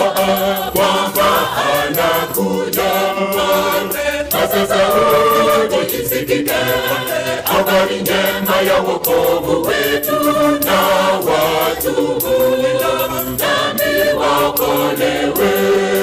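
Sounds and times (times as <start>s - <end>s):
choir singing in harmony: 0.0s - 16.0s
sharp steady beat: 0.0s - 16.0s.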